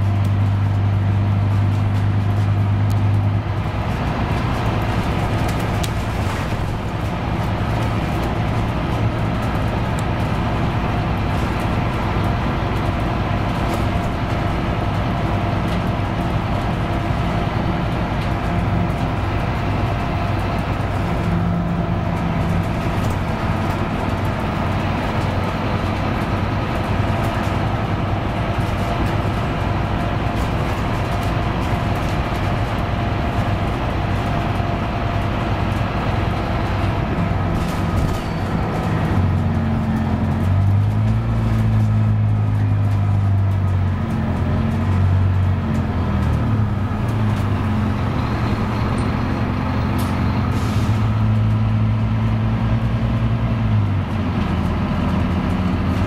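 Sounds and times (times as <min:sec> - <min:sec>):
bus diesel engine hum: 0:00.0 - 0:56.0
road noise: 0:00.0 - 0:56.0.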